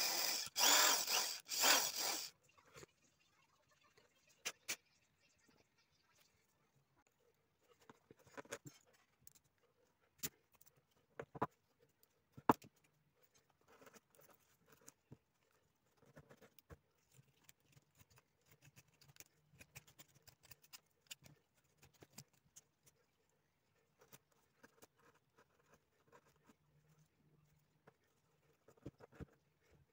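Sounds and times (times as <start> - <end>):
knife shaving pencil wood: 0.0 - 2.4, 7.2 - 29.9.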